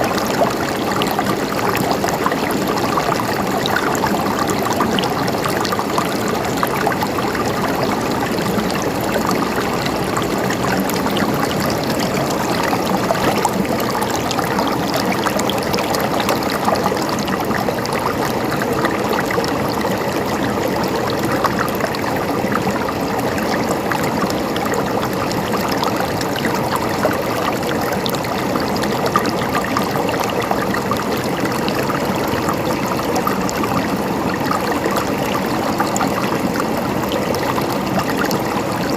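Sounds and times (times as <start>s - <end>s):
river water splashing over rocks: 0.0s - 38.9s.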